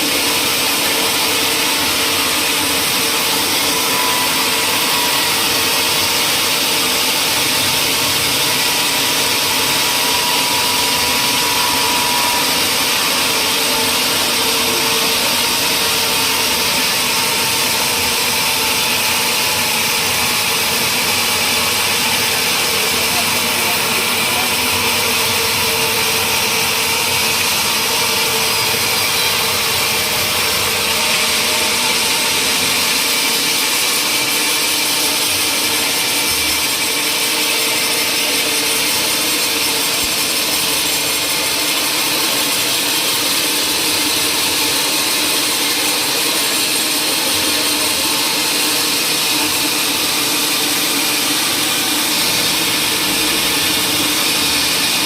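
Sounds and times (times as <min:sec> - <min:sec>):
power tool cutting wood: 0:00.0 - 0:55.0.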